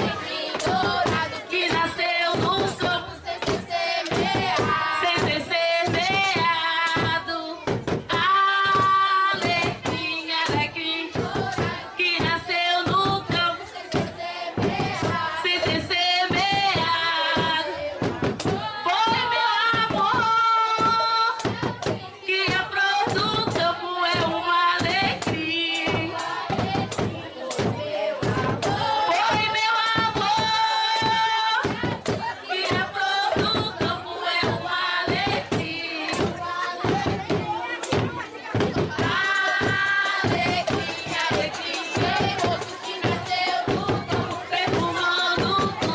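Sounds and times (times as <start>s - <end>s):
driving percussion beat: 0.0s - 45.9s.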